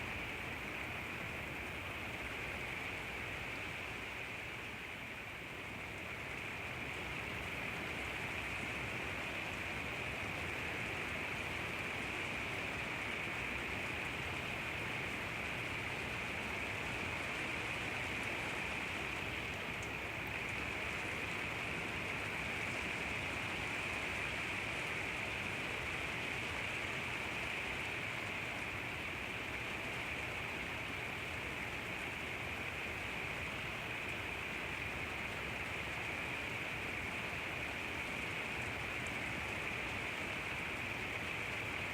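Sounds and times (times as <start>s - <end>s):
steady rain pouring: 0.0s - 41.9s.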